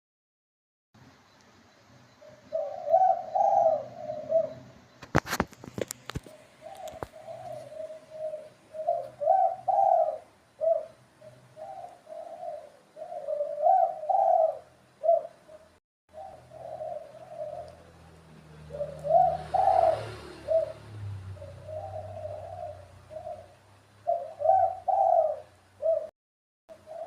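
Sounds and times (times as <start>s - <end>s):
dove cooing: 2.2s - 4.8s, 6.1s - 26.1s, 26.7s - 27.0s.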